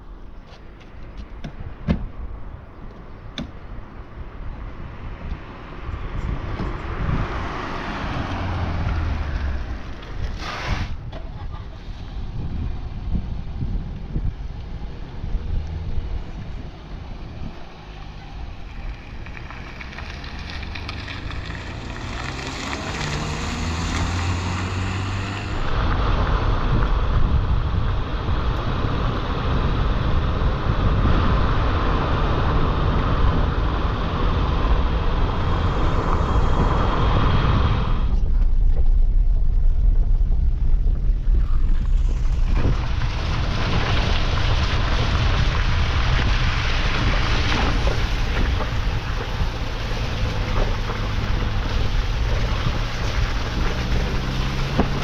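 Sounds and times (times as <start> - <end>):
road rumble: 0.0 - 55.0
wind buffeting microphone: 3.7 - 55.0
vehicle engine accelerating: 6.0 - 10.2, 11.2 - 55.0.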